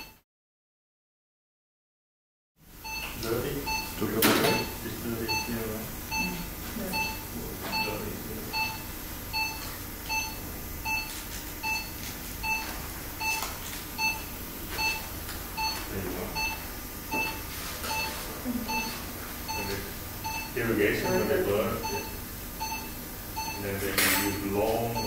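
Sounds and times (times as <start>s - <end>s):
patient monitor beeping: 2.8s - 25.0s.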